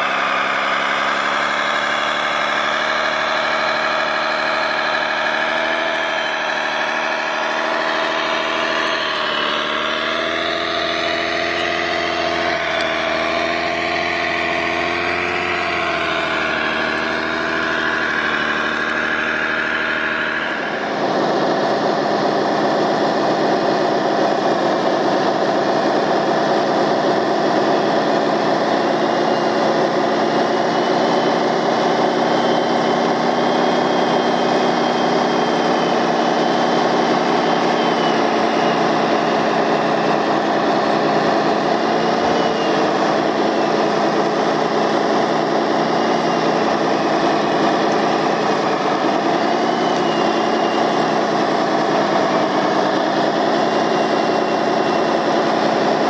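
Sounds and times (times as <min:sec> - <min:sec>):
denser steady engine sound: 0:00.0 - 0:56.0
model vehicle engine drone: 0:00.0 - 0:56.0.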